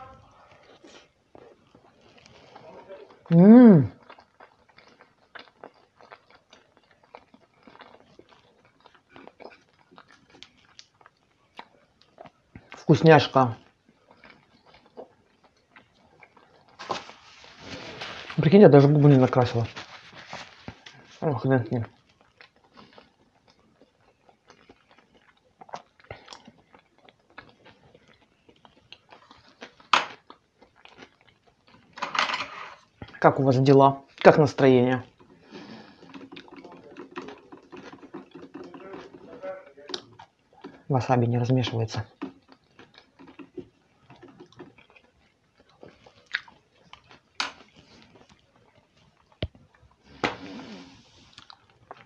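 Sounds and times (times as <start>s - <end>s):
person chewing: 0.0s - 32.0s, 34.0s - 40.9s, 42.0s - 52.0s.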